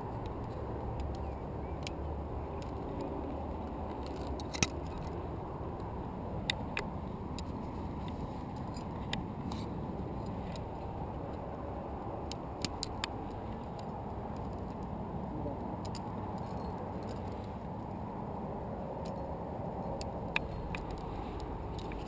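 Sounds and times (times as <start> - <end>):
metallic carabiner clicks: 0.2 - 11.4, 12.3 - 14.9, 15.8 - 17.6, 19.8 - 22.0.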